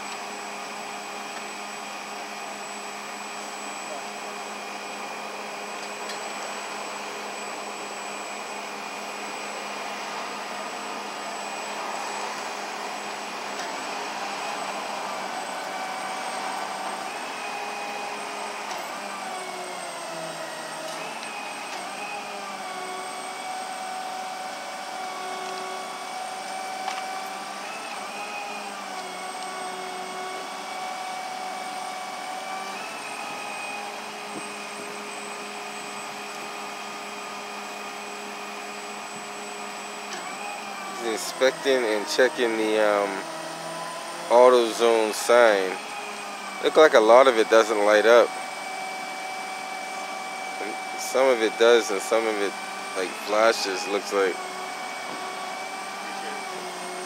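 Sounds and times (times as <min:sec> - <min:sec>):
machine motor hissing and whining: 0:00.0 - 0:57.0.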